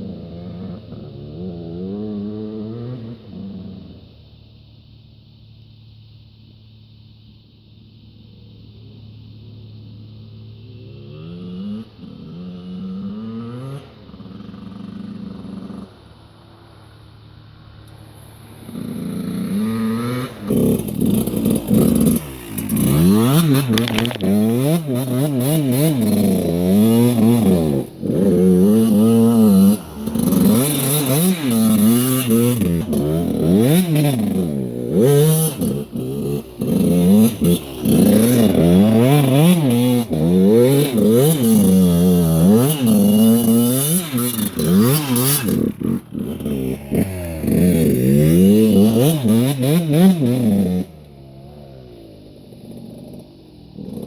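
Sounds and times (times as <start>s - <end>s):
dirt bike engine revving: 0.0s - 4.1s, 10.6s - 16.9s, 17.5s - 54.0s.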